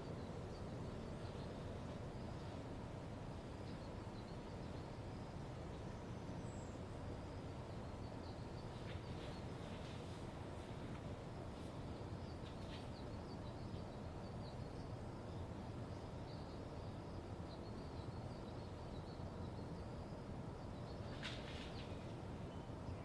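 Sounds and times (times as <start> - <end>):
songbirds chirping: 0.0 - 23.0
steady low hum: 0.0 - 23.0.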